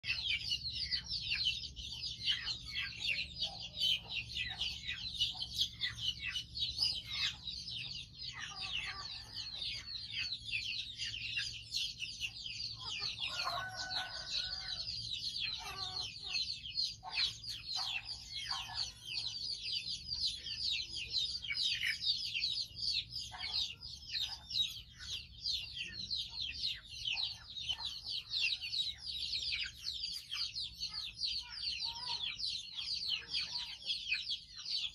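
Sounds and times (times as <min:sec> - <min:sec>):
birds chirping densely: 0:00.0 - 0:34.9.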